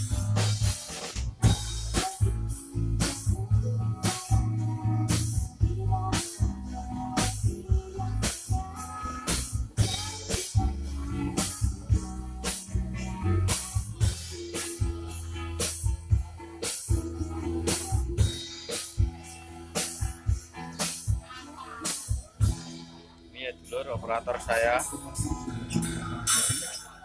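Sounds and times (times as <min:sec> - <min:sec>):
live band music: 0:00.0 - 0:23.0, 0:23.6 - 0:27.0
drum kit beat: 0:00.0 - 0:27.0.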